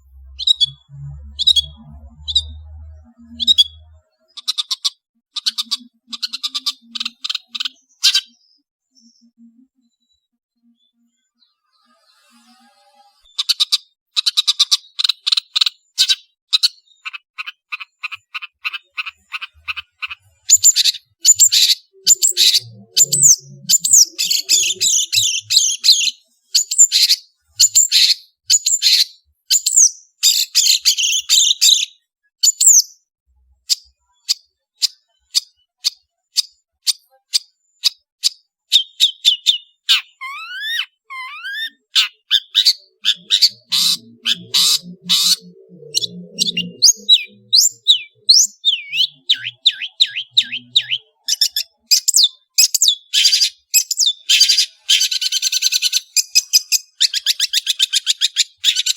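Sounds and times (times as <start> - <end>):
bird singing chirps and trills: 0.0 - 33.1, 33.7 - 58.9.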